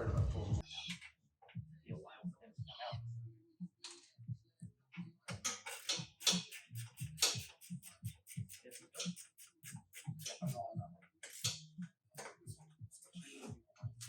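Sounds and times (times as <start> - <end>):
music with steady beat: 1.5 - 14.0.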